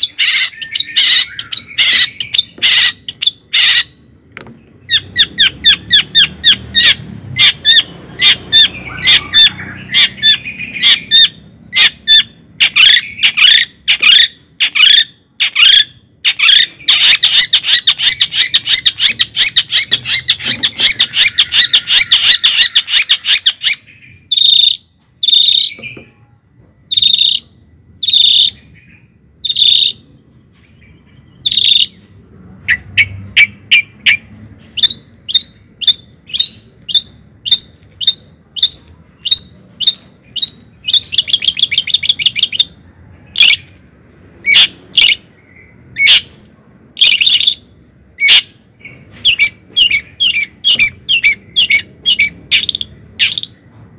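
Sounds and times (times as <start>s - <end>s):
bird chirping: 0.0s - 53.7s.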